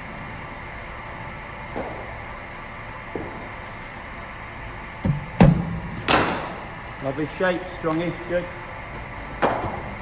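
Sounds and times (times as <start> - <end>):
bowling machine mechanical hum: 0.0 - 10.0.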